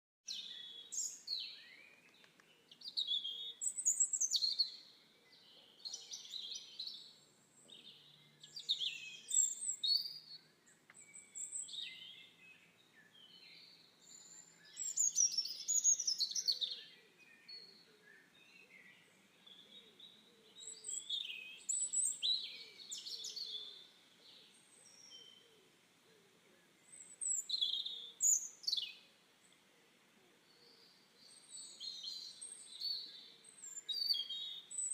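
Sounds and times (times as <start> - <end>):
faint background hiss: 0.3 - 34.9
songbirds chirping and whistling: 0.3 - 34.9.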